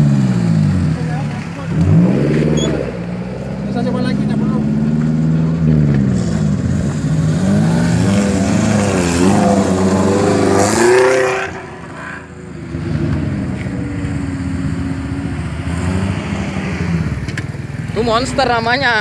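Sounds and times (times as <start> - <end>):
off-road engine revving hard: 0.0 - 17.3.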